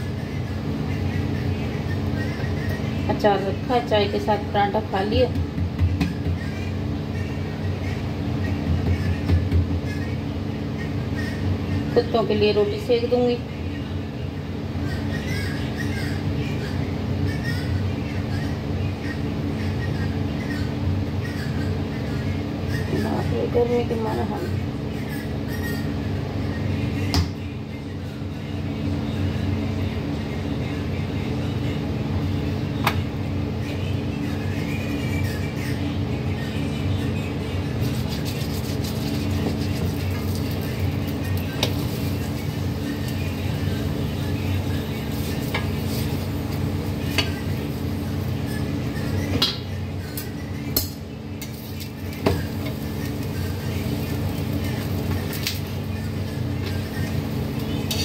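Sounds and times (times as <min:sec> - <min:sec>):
electric fan humming: 0:00.0 - 0:58.0.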